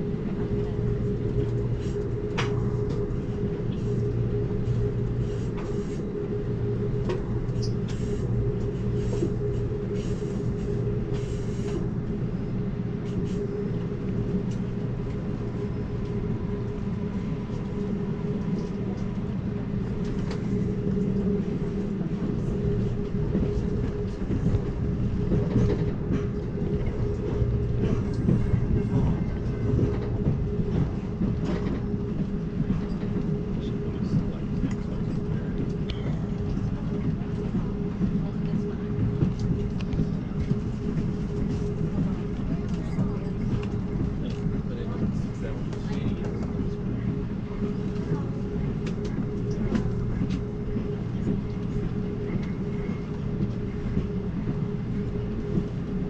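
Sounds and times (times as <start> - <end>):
passenger train rumbling: 0.0 - 56.0.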